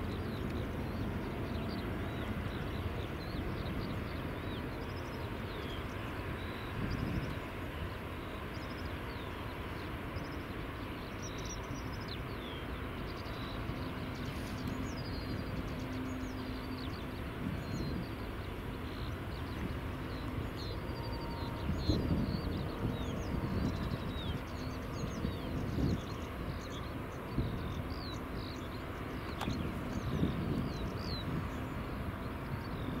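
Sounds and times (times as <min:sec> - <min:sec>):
small songbirds chirping: 0:00.0 - 0:33.0
steady low rumble: 0:00.0 - 0:33.0.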